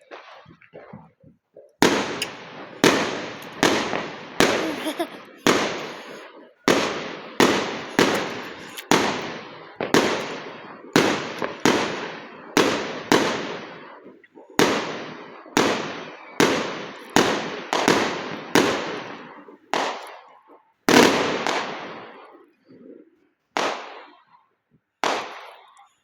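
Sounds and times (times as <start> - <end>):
fireworks bangs: 0.0 - 20.3, 20.9 - 22.4.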